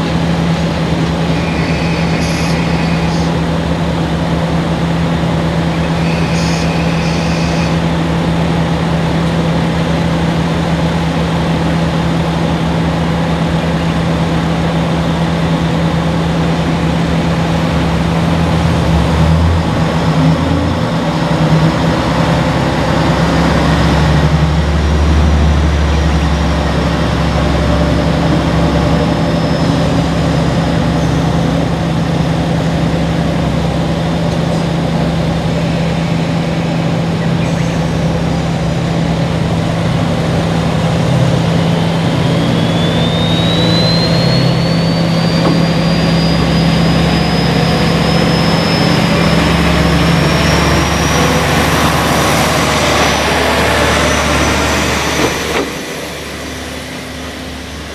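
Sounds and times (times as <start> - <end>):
diesel railcar engine drone: 0.0 - 57.9
rising whine: 0.0 - 57.9.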